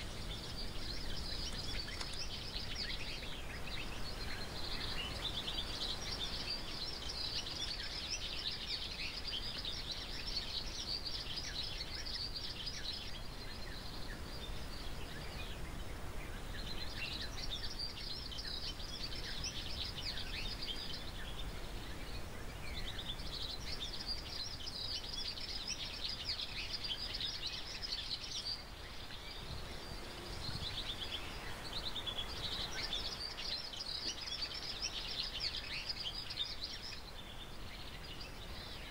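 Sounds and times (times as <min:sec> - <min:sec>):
birds chirping: 0:00.0 - 0:38.9
low background noise: 0:00.0 - 0:38.9.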